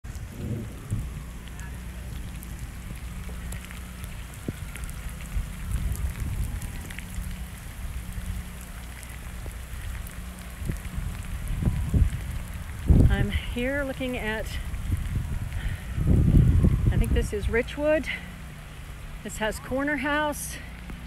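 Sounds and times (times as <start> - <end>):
rain falling: 0.0 - 21.0
steady low rumble: 0.0 - 21.0.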